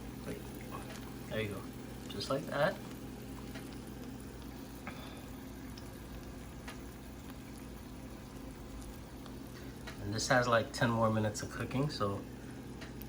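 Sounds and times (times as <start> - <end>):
food sizzling and bubbling: 0.0 - 13.0.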